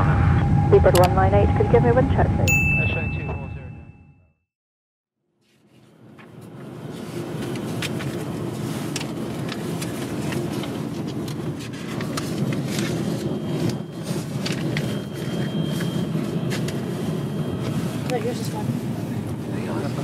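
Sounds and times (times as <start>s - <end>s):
aircraft engines and ground vehicles: 0.0s - 3.6s, 5.4s - 20.0s.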